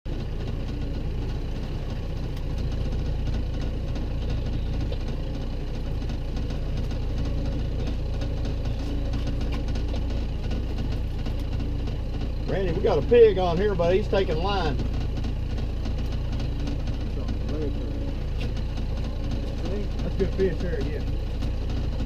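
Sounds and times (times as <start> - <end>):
boat motor rumbling: 0.0 - 22.0.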